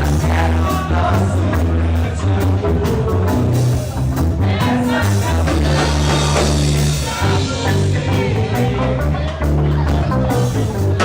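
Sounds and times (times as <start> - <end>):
band playing rock song: 0.0 - 11.0
person singing: 0.0 - 11.0.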